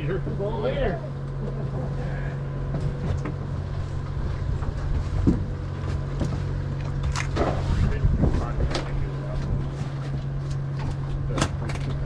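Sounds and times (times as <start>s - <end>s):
boat diesel engine humming: 0.0s - 12.0s.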